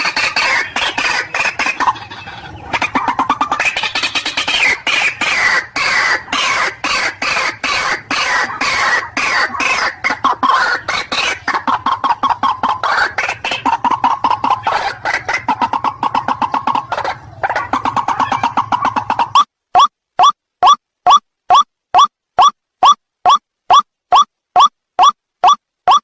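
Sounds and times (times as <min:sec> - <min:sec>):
bird croaking calls: 0:00.0 - 0:23.8.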